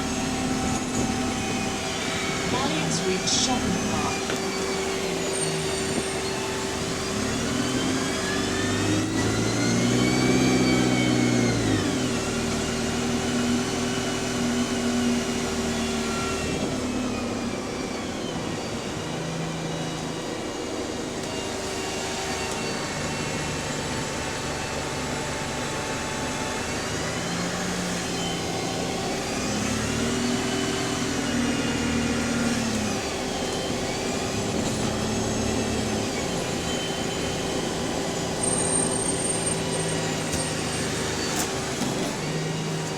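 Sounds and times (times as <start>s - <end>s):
bus engine pulling away: 0.0s - 42.9s
gearbox whine: 0.0s - 42.9s.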